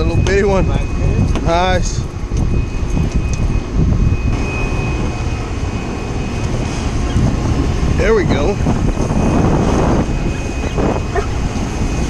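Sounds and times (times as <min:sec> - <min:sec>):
faint high whine: 0:00.0 - 0:12.0
wind buffeting microphone: 0:00.0 - 0:12.0.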